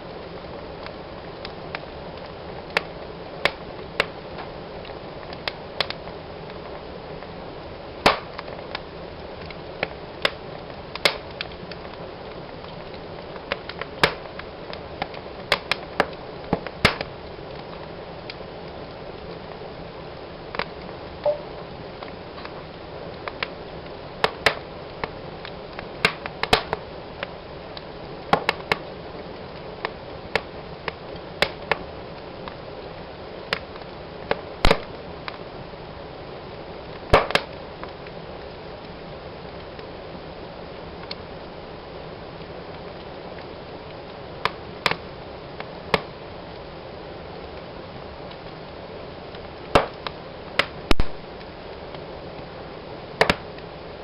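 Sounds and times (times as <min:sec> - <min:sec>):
fire hissing: 0:00.0 - 0:54.0
logs crackling and popping: 0:00.0 - 0:54.0.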